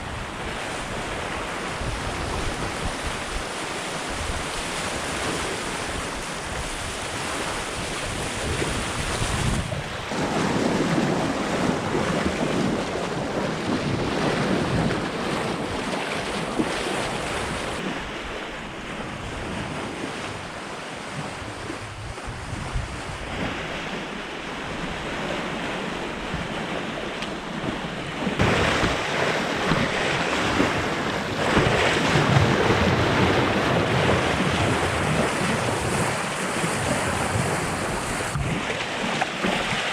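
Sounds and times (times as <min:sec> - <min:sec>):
water rushing along a hull: 0:00.0 - 0:39.9
wind on microphone: 0:00.0 - 0:39.9.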